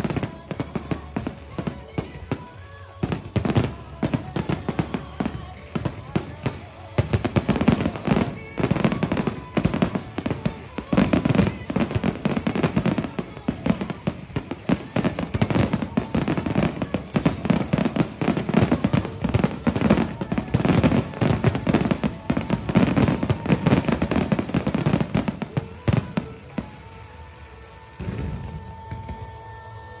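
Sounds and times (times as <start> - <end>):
fireworks bangs and crackles: 0.0 - 29.7.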